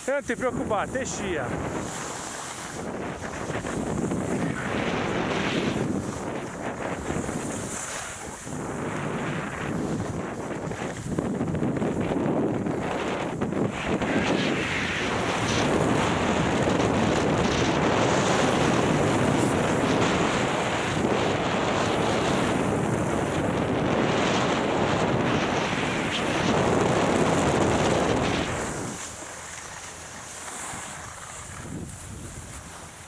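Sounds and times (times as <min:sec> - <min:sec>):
wind rushing over microphone: 0:00.0 - 0:33.0
skis hissing over snow: 0:00.2 - 0:11.3, 0:12.7 - 0:33.0.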